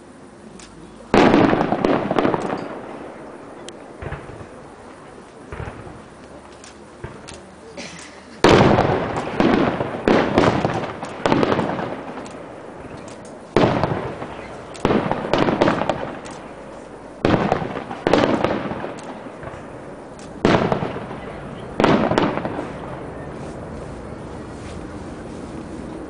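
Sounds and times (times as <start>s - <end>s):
firework shells bursting: 0.6s - 23.1s.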